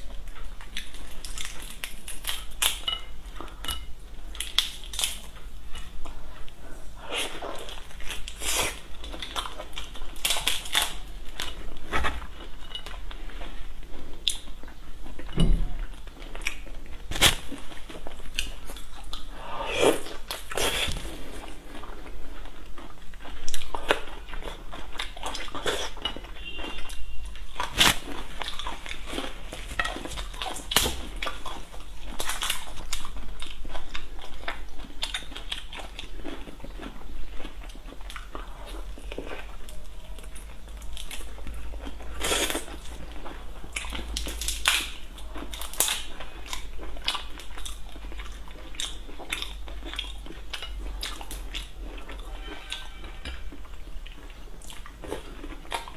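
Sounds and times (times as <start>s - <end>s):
chewing: 0.0s - 55.9s.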